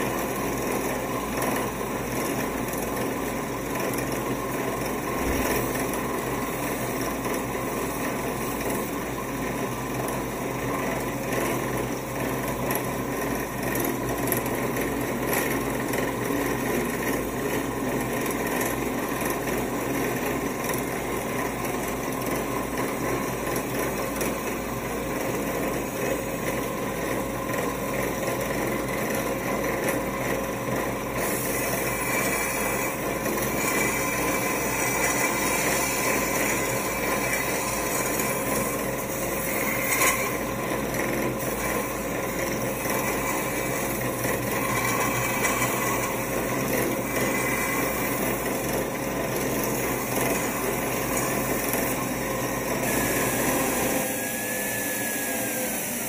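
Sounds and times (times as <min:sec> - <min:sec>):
belt grinder grinding steel blade: 0:00.0 - 0:56.0.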